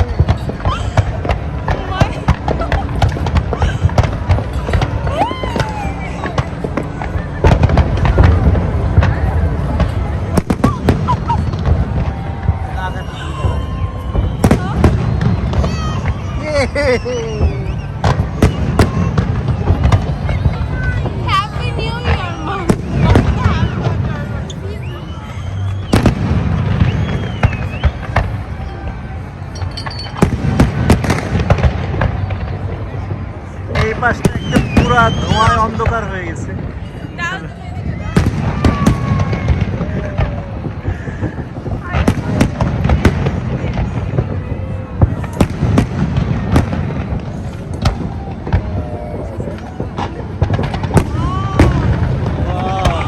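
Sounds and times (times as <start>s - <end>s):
fireworks bangs: 0.0s - 53.0s
low rumble: 0.0s - 53.0s.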